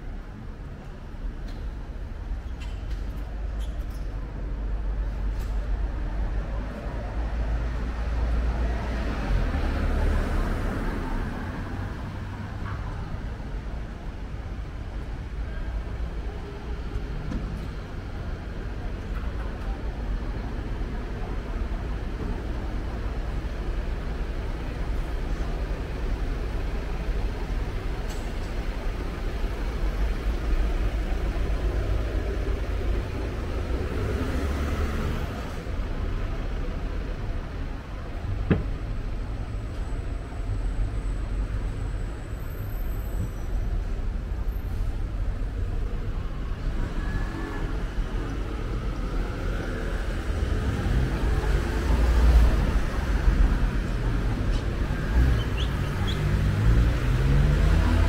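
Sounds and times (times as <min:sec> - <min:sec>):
cars passing and idling: 0:00.0 - 0:58.0
low traffic rumble: 0:00.0 - 0:58.0.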